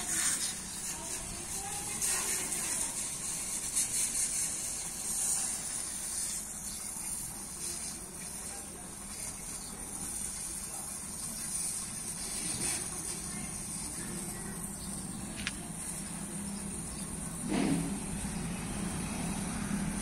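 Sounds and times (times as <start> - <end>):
water jet spraying on truck: 0.0 - 20.0.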